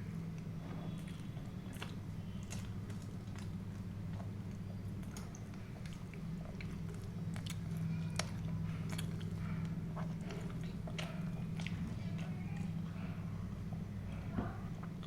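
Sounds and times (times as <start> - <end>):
steady low hum: 0.0 - 15.0
chewing and biting food: 0.3 - 15.0.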